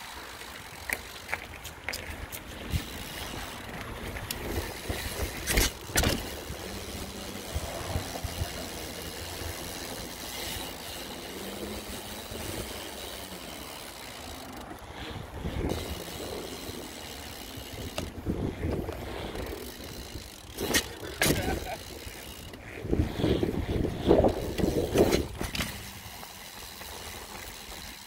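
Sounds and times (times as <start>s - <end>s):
bike tyres rumbling on trail: 0.0s - 28.0s.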